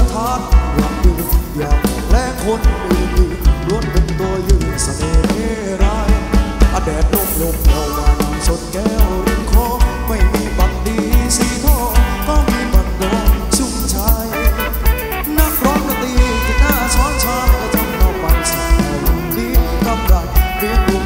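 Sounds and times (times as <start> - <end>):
bass drum beat: 0.0 - 21.0
guitar: 0.0 - 21.0
keyboard: 0.0 - 21.0
person singing: 0.0 - 21.0.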